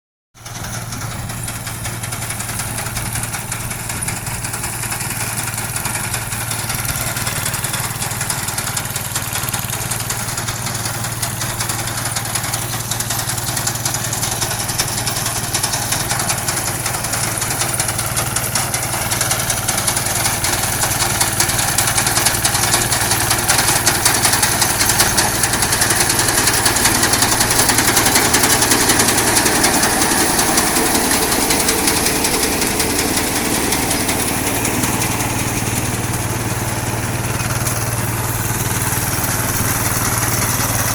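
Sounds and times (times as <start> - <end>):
combine harvester engine hum: 0.4 - 40.9
machinery whirring and rattling: 0.4 - 40.9.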